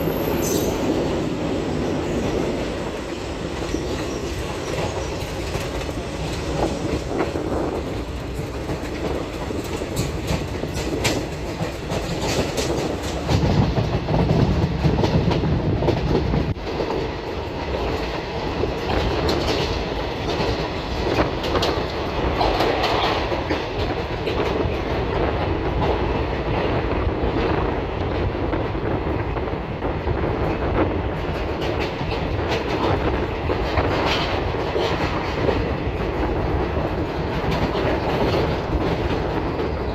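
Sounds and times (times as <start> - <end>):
train rumbling on track: 0.0 - 39.9
wheels clattering over rail joints: 0.1 - 26.7, 30.4 - 39.9.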